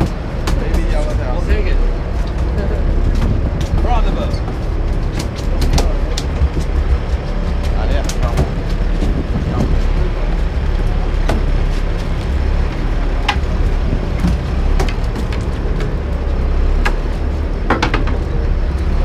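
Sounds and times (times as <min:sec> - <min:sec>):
boat engine rumbling: 0:00.0 - 0:19.0
water noise: 0:00.0 - 0:19.0
wind: 0:00.0 - 0:19.0
sharp clicks and knocks: 0:02.1 - 0:19.0.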